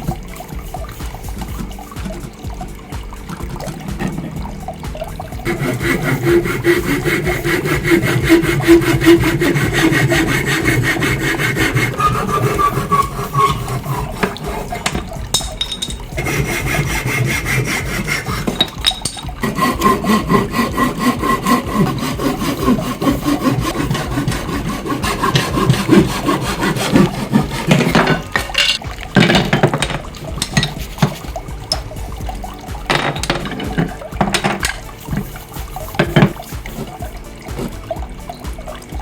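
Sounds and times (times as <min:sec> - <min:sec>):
saw cutting wood: 0:05.4 - 0:37.9.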